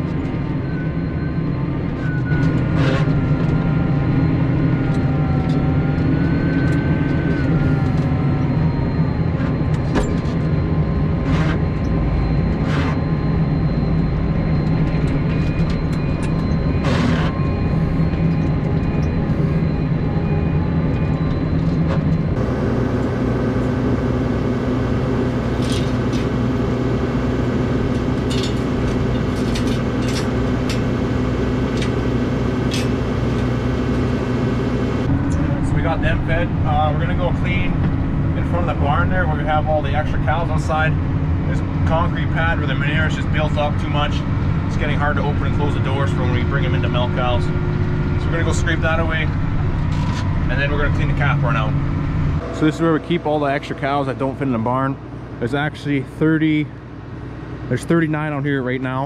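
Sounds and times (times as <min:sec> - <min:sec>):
tractor engine running: 0:00.0 - 0:59.0
wavering whine: 0:00.0 - 0:59.0.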